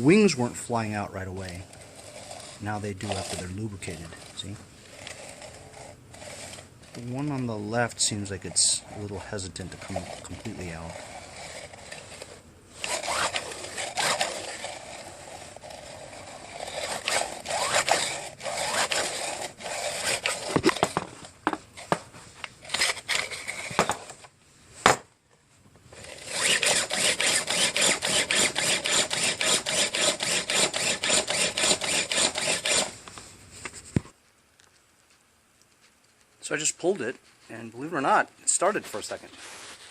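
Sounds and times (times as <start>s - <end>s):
recoil starter rope scraping: 0.0s - 24.3s, 25.9s - 34.0s, 36.4s - 39.9s.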